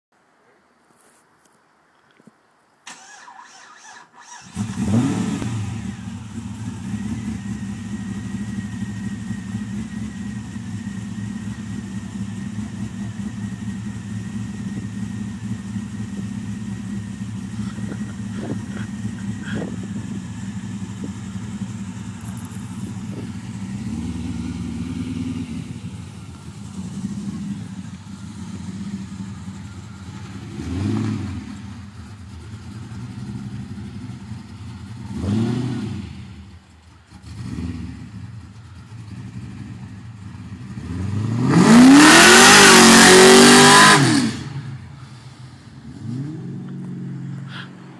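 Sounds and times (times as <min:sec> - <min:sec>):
car engine idling and revving: 0:02.9 - 0:47.9.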